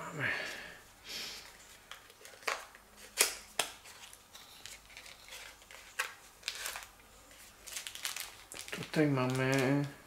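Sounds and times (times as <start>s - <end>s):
paper rustling: 1.4s - 9.9s.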